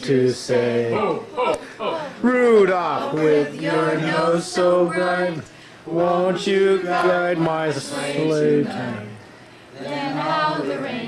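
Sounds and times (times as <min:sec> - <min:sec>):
group singing a carol: 0:00.0 - 0:01.9, 0:02.5 - 0:11.0.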